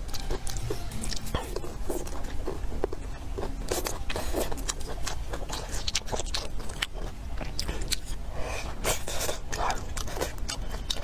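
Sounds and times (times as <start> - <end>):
low hum: 0.0 - 9.9
person chewing food: 0.0 - 11.0.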